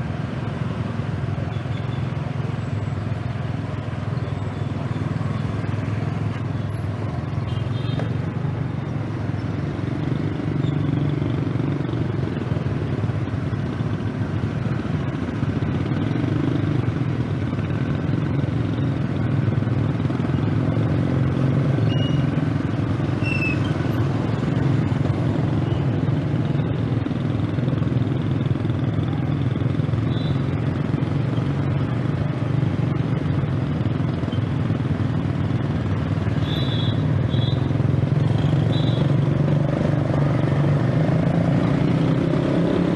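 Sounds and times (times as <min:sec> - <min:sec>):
road and wind noise: 0:00.0 - 0:42.9.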